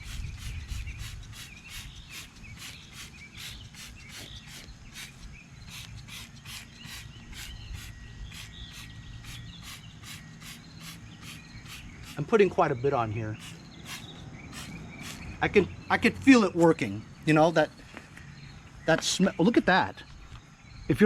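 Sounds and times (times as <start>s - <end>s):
birds chirping: 0.0s - 21.0s
insects chirping in pulsing rhythm: 0.0s - 21.0s.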